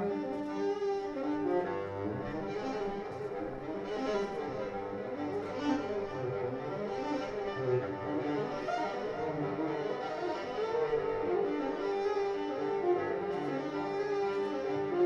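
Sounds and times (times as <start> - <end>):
bowed cello: 0.0 - 15.0.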